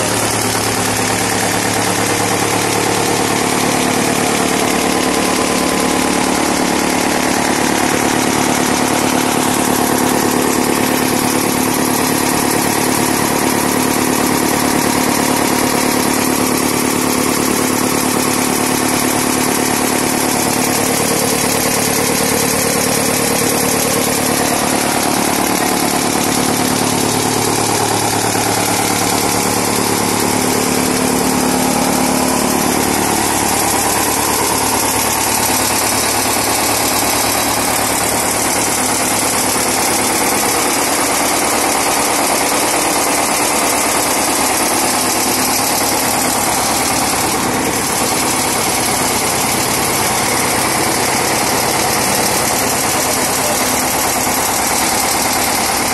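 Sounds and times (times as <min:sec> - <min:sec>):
farm machine engine drone: 0:00.0 - 0:55.9.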